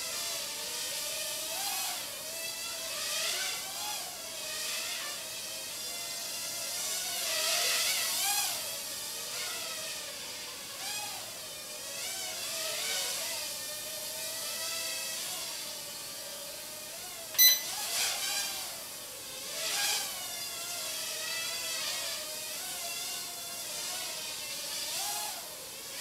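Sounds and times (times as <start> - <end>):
quadcopter motors whining: 0.0 - 17.2, 18.5 - 26.0.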